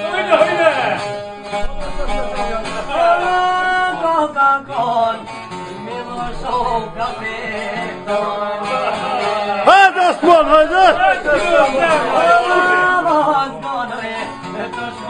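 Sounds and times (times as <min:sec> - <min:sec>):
man singing folk song: 0:00.0 - 0:15.0
plucked two-stringed lutes: 0:01.0 - 0:14.9.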